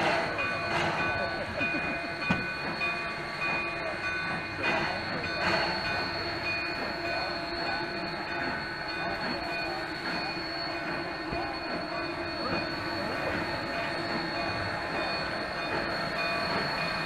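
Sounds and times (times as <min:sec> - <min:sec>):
train mechanical running noise: 0:00.0 - 0:17.0.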